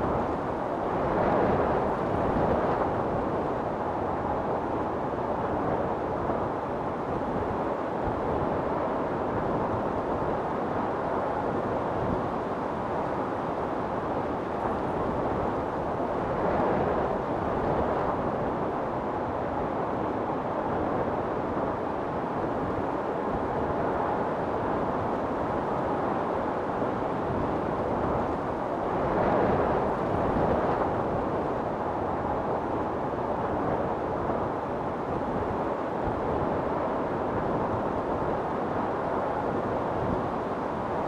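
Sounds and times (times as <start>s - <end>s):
storm wind blowing: 0.0s - 41.0s.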